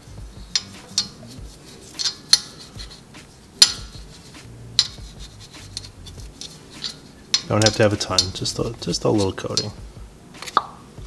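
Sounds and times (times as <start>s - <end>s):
metal tools clinking: 0.0s - 9.8s.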